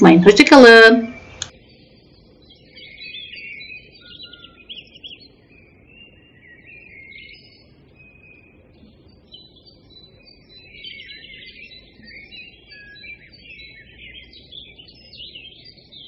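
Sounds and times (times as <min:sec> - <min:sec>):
songbird chirping and warbling: 0:00.0 - 0:16.0.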